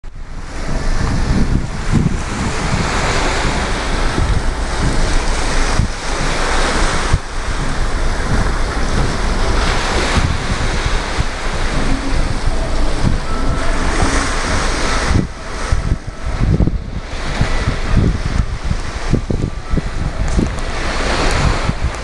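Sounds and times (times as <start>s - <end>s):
sea water rushing: 0.0s - 22.0s
wind buffeting microphone: 0.0s - 22.0s.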